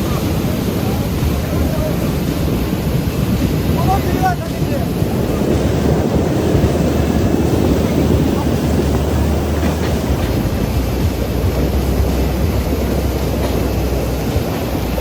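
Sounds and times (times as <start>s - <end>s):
heavy machine engine rumbling: 0.0s - 15.0s.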